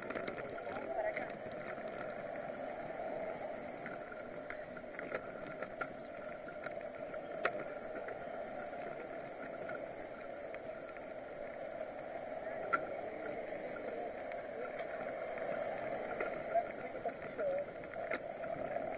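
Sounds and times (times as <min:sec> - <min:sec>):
bicycle rolling over asphalt: 0:00.0 - 0:18.9
bike rattling clicks: 0:00.0 - 0:18.9.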